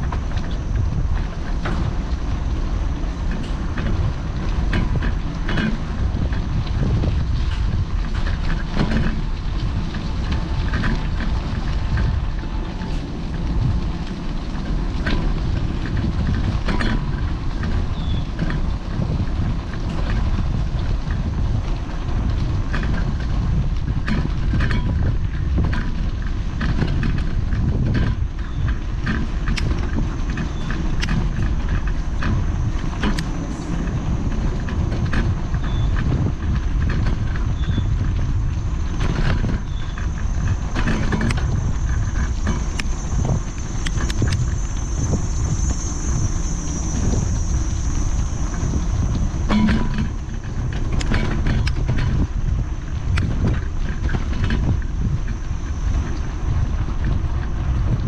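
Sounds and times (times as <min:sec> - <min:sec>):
bike road rumble: 0:00.0 - 0:58.0
small clicks and rattles: 0:00.0 - 0:58.0
wind noise on microphone: 0:00.0 - 0:58.0.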